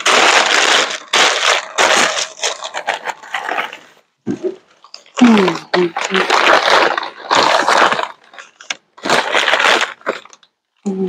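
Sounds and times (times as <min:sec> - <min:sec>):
packing paper crinkling: 0:00.0 - 0:10.8.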